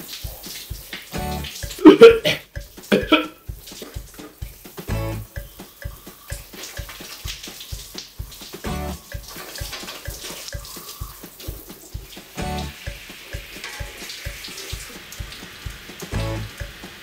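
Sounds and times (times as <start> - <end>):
background music with low beat: 0.0 - 17.0
shower spray running: 0.0 - 17.0.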